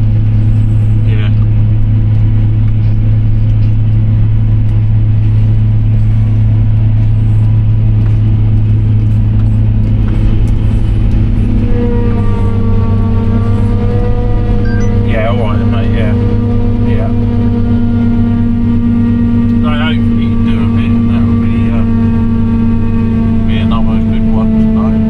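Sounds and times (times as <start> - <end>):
multi-toned whine: 0.0 - 25.0
tractor engine drone: 0.0 - 25.0.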